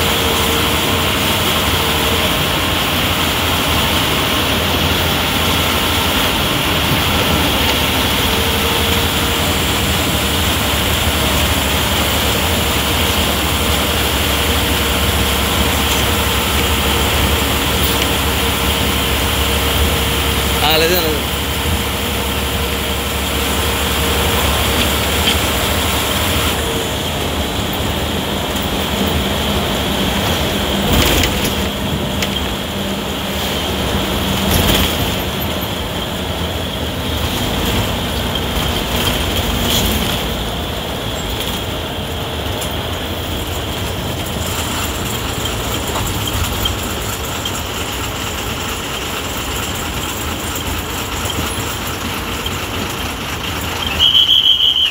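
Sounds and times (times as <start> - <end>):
bus engine running: 0.0 - 54.9
road and body rattle: 0.0 - 54.9.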